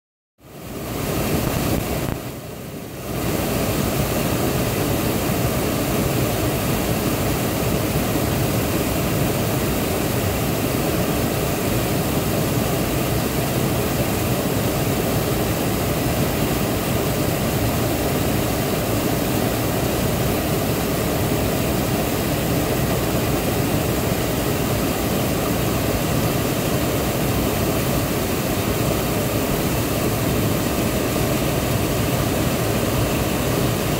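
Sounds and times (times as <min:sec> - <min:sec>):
waterfall rushing: 0:00.5 - 0:33.9.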